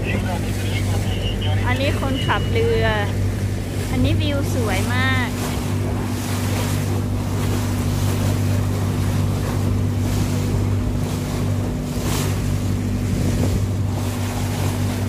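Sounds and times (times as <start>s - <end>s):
motorboat engine running: 0.0s - 15.0s
water rushing along hull: 0.0s - 15.0s
wind on microphone: 1.8s - 15.0s.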